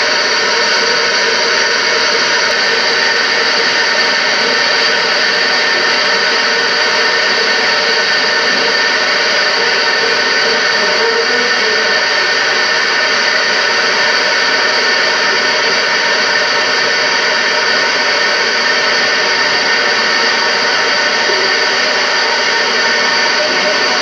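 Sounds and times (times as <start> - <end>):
loud tape hiss: 0.0 - 24.0.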